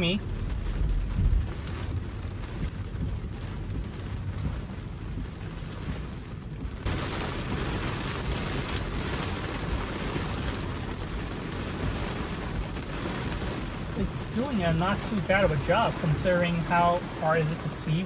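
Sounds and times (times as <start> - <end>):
heavy rain on a car: 0.0 - 18.0
road noise: 0.0 - 18.0.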